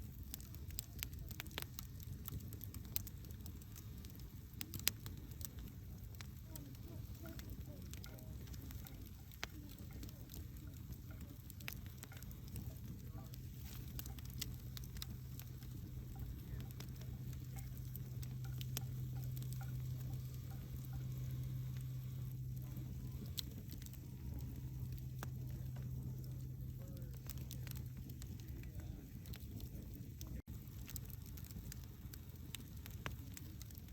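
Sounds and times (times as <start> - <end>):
steady low hum: 0.0 - 33.9
wood fire crackling and popping: 0.0 - 33.9.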